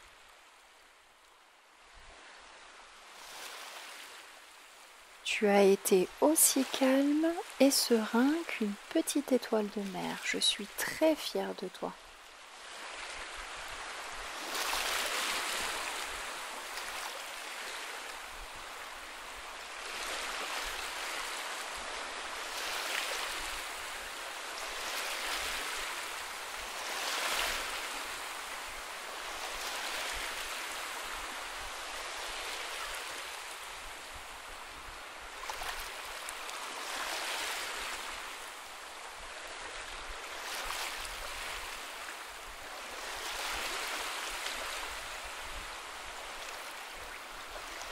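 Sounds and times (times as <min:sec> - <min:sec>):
sea waves washing onto beach: 0:00.0 - 0:47.9.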